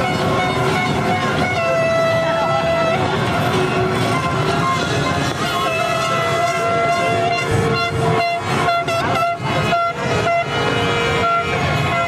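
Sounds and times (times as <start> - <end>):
many horns tooting: 0.0 - 12.0.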